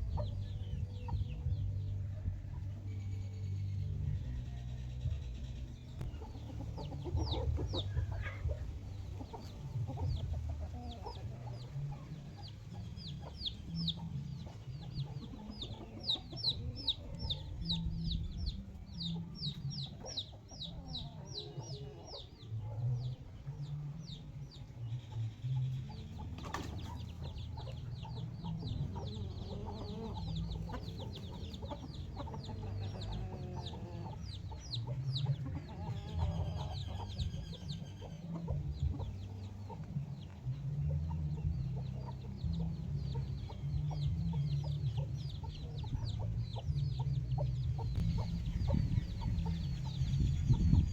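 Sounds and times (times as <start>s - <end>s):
chickens clucking: 0.0s - 50.9s
chicks peeping: 0.0s - 50.9s.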